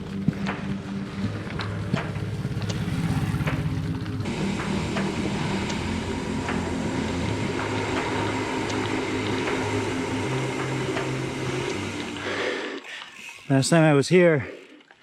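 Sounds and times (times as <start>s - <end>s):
background music with bass and beat: 0.0s - 12.4s.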